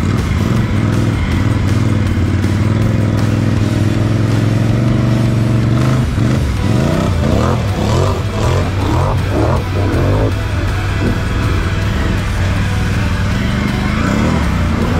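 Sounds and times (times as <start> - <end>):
atv engine revving: 0.0 - 14.9.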